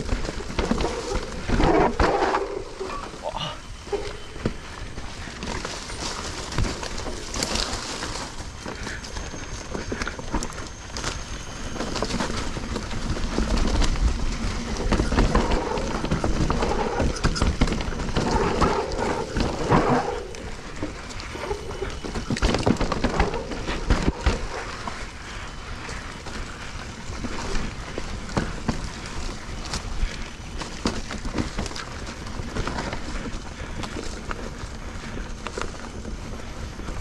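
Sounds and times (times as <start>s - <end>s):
bike rattling over rough terrain: 0.0s - 37.0s
tyres on dirt: 0.0s - 37.0s.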